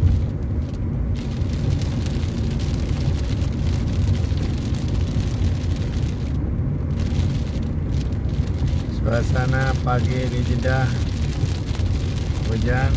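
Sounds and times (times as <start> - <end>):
car road and engine rumble: 0.0 - 12.9
rain hissing on car: 0.0 - 12.9.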